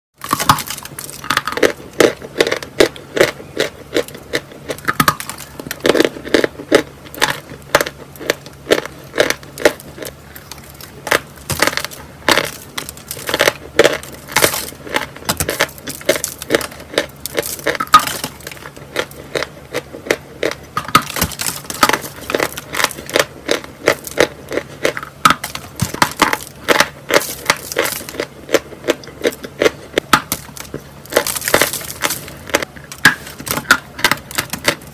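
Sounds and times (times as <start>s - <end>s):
chalk being chewed crunching: 0.2s - 34.9s.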